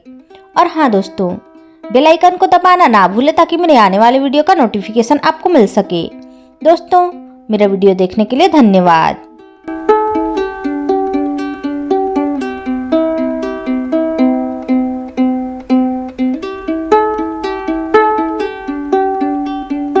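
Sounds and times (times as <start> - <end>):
plucked-string tune: 0.0 - 20.0.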